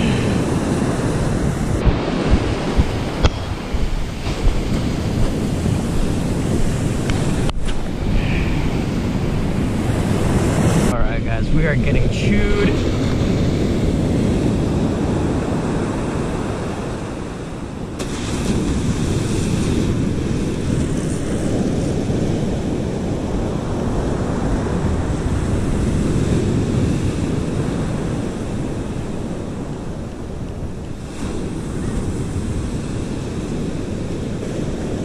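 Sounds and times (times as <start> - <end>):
ocean surf breaking on beach: 0.0 - 35.0
wind buffeting microphone: 0.0 - 35.0.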